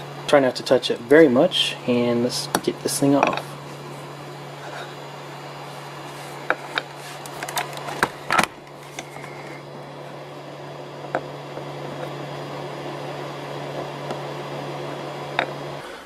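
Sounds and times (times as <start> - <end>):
cooling fan humming: 0.0 - 16.0.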